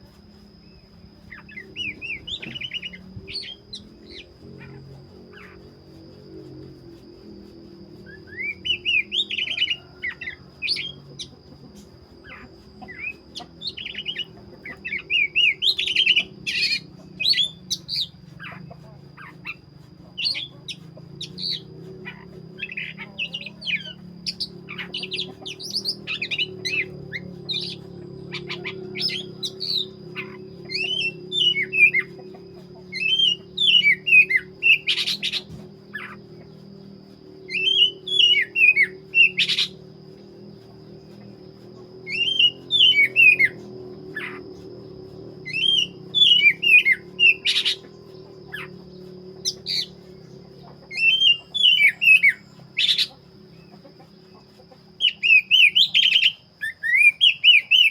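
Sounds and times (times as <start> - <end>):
bird singing whistled notes: 0.4 - 5.9, 8.0 - 53.8, 55.0 - 57.9.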